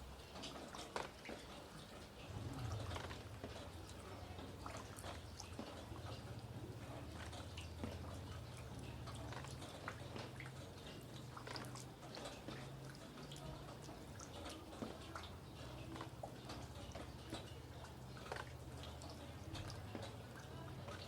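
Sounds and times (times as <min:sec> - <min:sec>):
raindrops tapping and dripping: 0:00.0 - 0:21.0.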